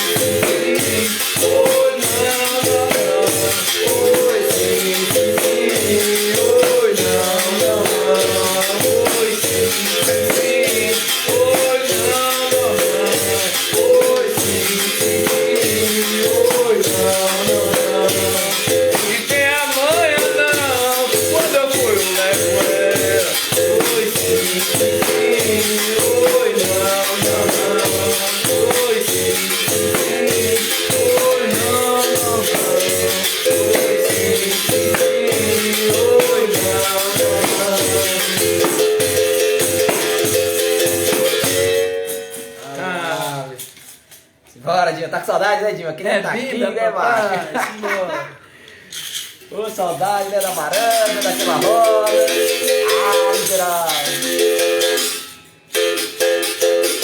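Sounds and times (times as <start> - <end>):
berimbau playing rhythm: 0.0 - 44.4, 47.2 - 57.0
shaker rattle: 0.0 - 44.5, 48.8 - 57.0.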